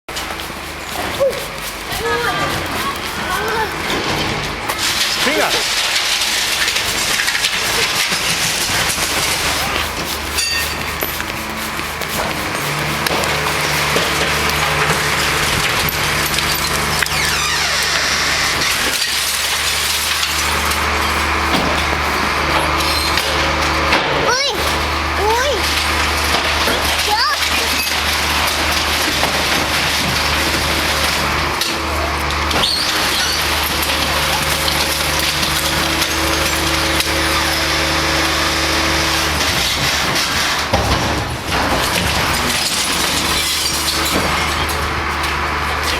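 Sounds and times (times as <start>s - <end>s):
compactor crunching and crackling: 0.1s - 45.9s
diesel engine humming: 0.1s - 45.9s.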